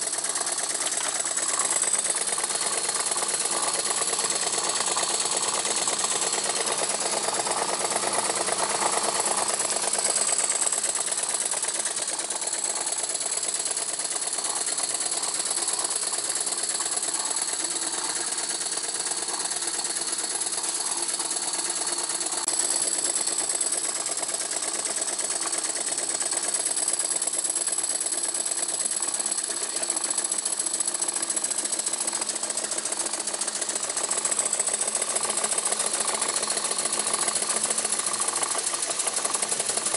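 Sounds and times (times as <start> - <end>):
steam engine mechanical clatter: 0.0 - 39.9.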